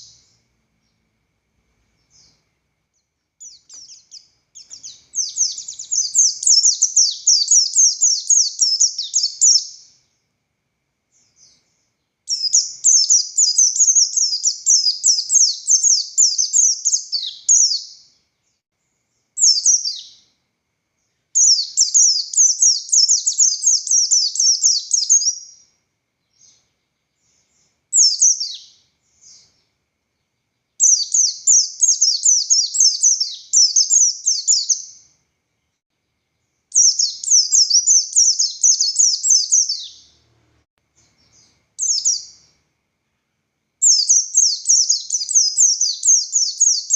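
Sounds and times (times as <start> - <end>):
bird warbling song: 0.0 - 1.1, 1.9 - 10.2, 11.1 - 20.3, 21.0 - 35.8, 36.4 - 40.4, 41.0 - 46.9.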